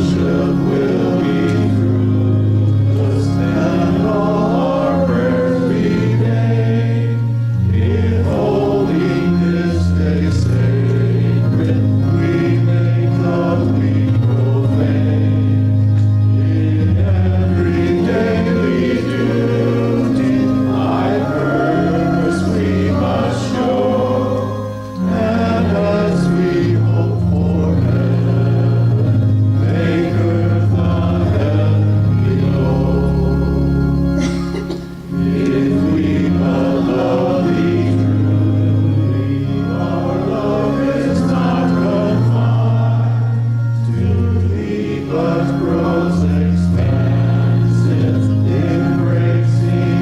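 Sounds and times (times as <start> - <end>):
congregation singing a hymn: 0.0 - 50.0
instrumental accompaniment chords: 0.0 - 50.0.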